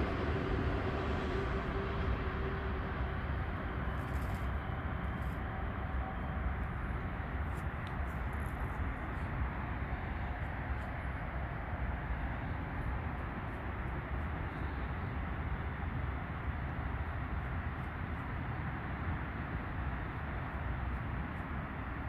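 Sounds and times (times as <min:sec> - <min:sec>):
rumbling outdoor noise: 0:00.0 - 0:22.0.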